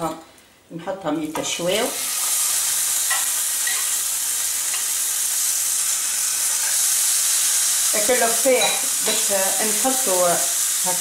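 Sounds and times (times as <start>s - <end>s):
fish sizzling in a frying pan: 1.6s - 11.0s.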